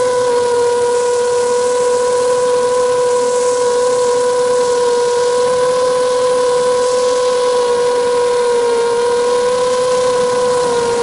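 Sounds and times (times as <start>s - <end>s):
drone motors whining: 0.0s - 11.0s
rushing air: 0.0s - 11.0s.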